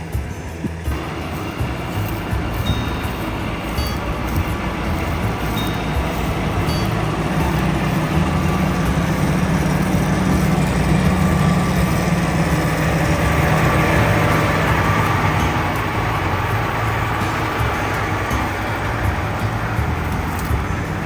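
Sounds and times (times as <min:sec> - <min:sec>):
diesel engine drone: 0:00.0 - 0:21.0
mechanical rush: 0:00.0 - 0:21.0.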